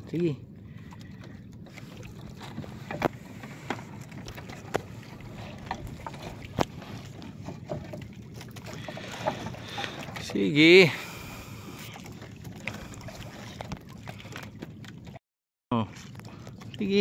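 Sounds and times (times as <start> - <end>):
wind and water rushing: 0.0 - 15.2.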